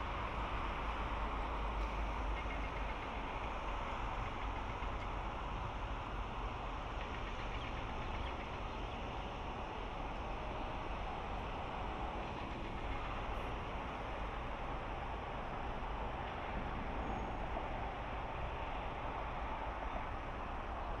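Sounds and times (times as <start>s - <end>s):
car road noise at highway speed: 0.0s - 21.0s.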